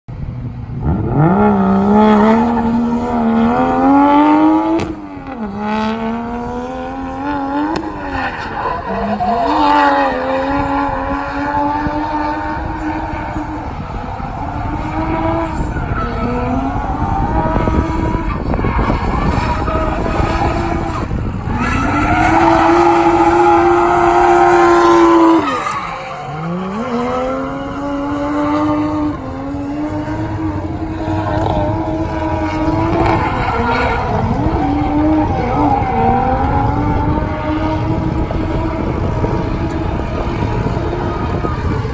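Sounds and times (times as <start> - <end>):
car engine at high revs: 0.1 - 41.9
tyres spinning on asphalt: 6.5 - 41.9.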